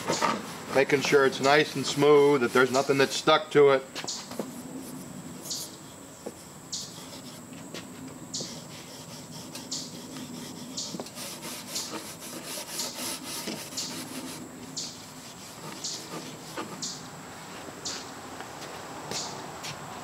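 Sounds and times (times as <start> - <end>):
steel wool rubbing wood: 0.0 - 3.3, 4.4 - 17.1.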